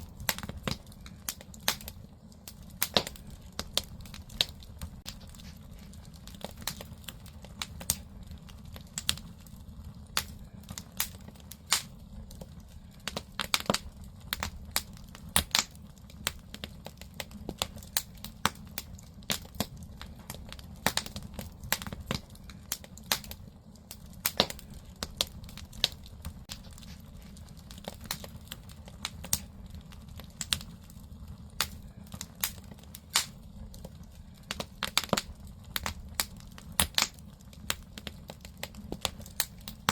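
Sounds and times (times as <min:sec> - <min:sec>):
firewood crackling and popping: 0:00.0 - 0:39.9
low fire rumble: 0:00.0 - 0:39.9.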